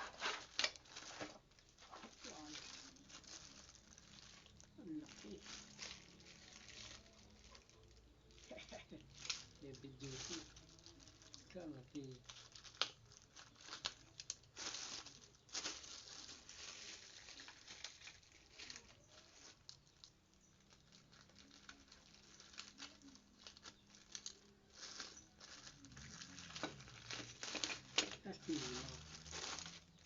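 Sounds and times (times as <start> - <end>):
packaging rustling and crinkling: 0.0 - 30.0.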